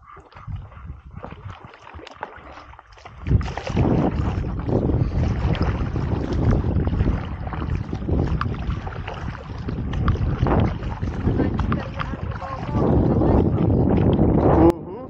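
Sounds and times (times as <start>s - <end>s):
water splashing and sloshing: 0.0s - 14.6s
wind rumbling on microphone: 0.0s - 15.0s.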